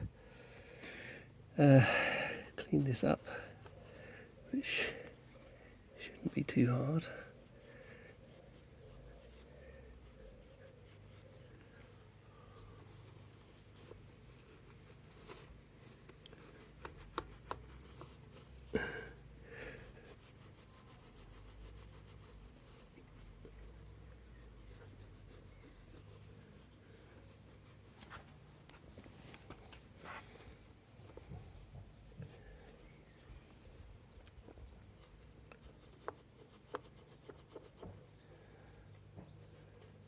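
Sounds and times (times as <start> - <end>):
hand scraping and rubbing metal: 2.5 - 19.2, 19.8 - 40.0.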